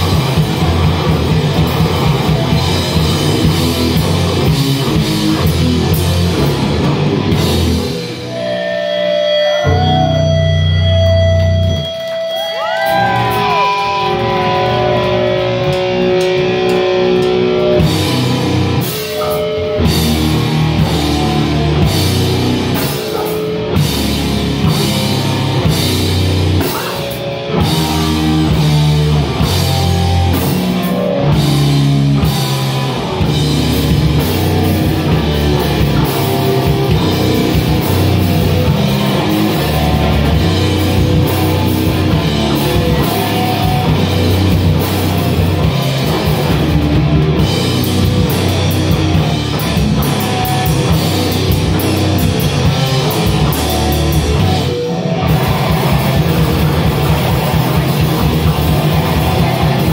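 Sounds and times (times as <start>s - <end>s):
drums and cymbals: 0.0s - 14.9s, 15.6s - 59.9s
distorted electric guitar: 0.0s - 59.9s.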